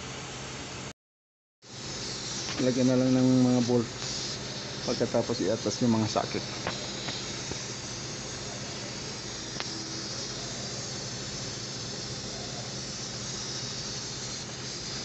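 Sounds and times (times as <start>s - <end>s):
electric fan motor running: 1.6s - 15.0s.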